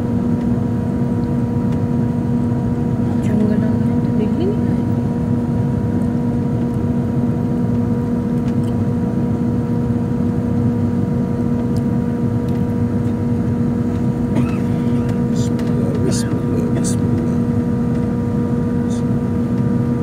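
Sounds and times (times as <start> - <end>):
jet engine drone in cabin: 0.0 - 20.0.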